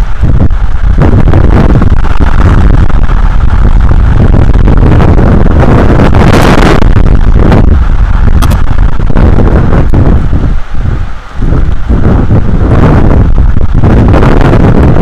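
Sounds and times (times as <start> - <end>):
driving rain: 0.0 - 15.0
hurricane wind buffeting microphone: 0.0 - 15.0.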